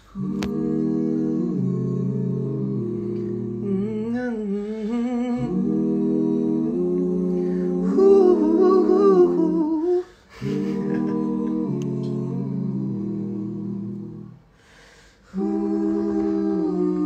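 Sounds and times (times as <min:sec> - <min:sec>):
a cappella vocal harmonies: 0:00.0 - 0:17.0.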